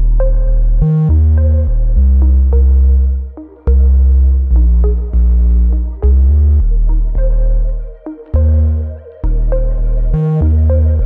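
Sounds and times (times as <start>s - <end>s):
electronic synthesizer music: 0.0s - 11.0s.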